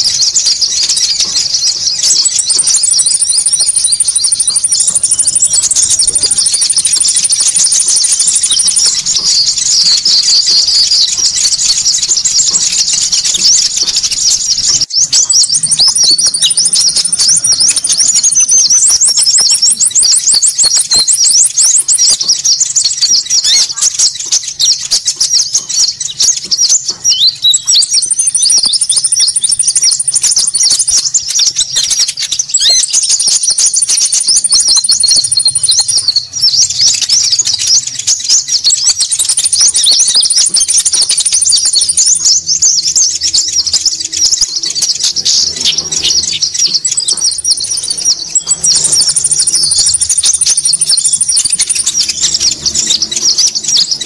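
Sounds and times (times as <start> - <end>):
birds chattering rapidly: 0.0 - 54.0
very high bird trill: 0.0 - 54.0.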